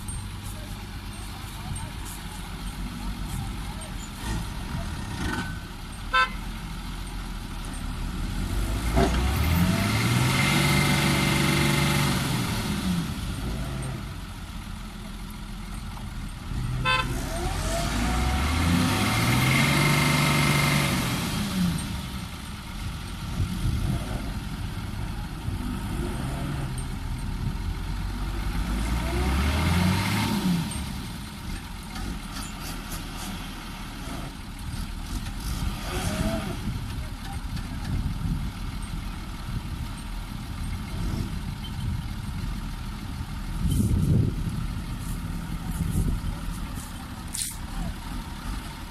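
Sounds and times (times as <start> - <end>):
heavy diesel engine revving: 0.0 - 15.4, 16.4 - 48.9.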